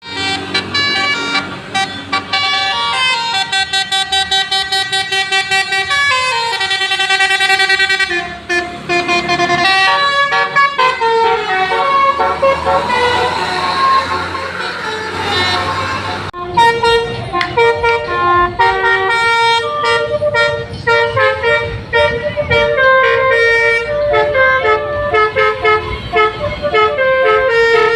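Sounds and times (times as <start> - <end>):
musical bus air horns: 0.0 - 27.9.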